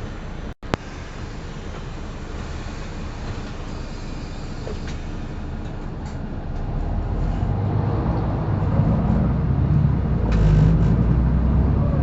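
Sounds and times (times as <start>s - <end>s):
bus interior engine rumble: 0.0s - 12.0s.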